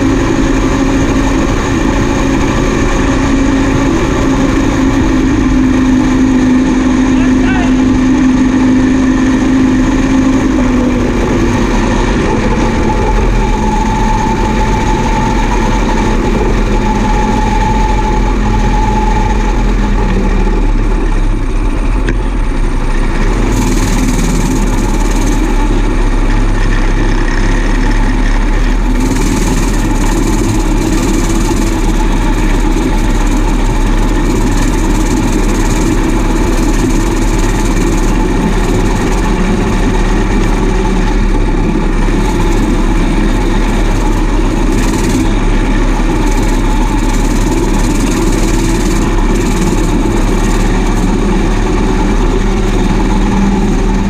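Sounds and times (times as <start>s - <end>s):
combine harvester engine droning: 0.0s - 54.0s
low tone: 0.0s - 54.0s.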